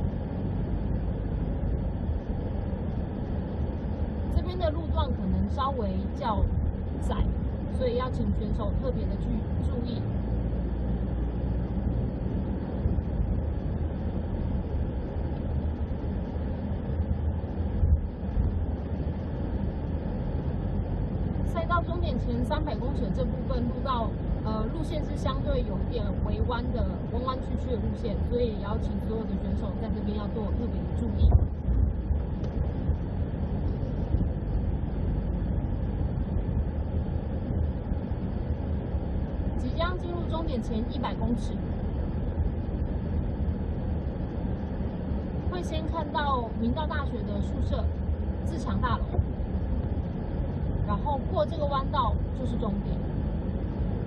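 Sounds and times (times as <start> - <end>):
vehicle rumble on road: 0.0 - 54.0.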